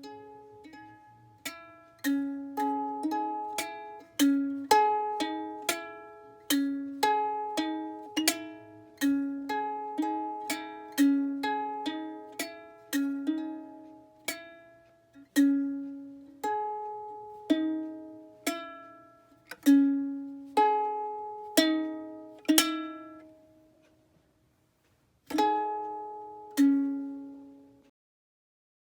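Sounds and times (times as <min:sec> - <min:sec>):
ukulele chords strummed: 0:00.0 - 0:24.0, 0:25.3 - 0:27.9.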